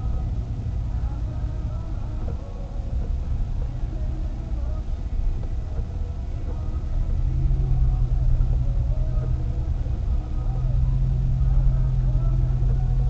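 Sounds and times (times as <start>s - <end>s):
car engine and road noise: 0.0s - 13.0s
deep steady hum: 0.0s - 13.0s.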